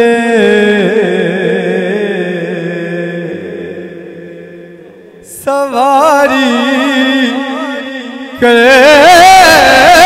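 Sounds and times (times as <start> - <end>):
man singing unaccompanied: 0.0 - 4.5, 5.2 - 10.0.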